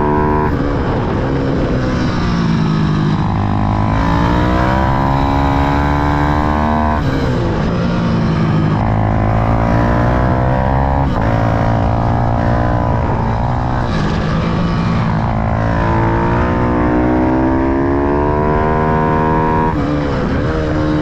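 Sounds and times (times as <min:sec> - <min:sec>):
minibike engine revving: 0:00.0 - 0:21.0.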